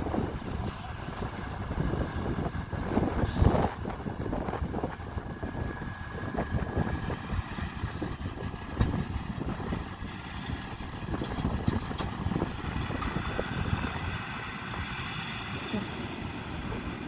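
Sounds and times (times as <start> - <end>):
diesel engines running: 0.0 - 17.0
wind rumble on microphone: 0.0 - 17.0.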